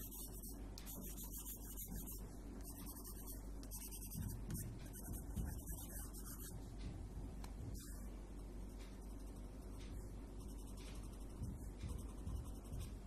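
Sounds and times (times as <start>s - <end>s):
colored pencil scratching on paper: 0.0s - 6.6s, 9.0s - 13.0s.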